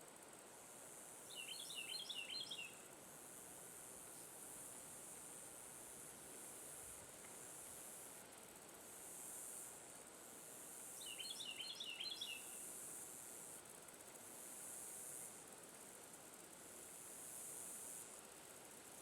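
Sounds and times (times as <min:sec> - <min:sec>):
high insect drone: 0:00.1 - 0:19.0.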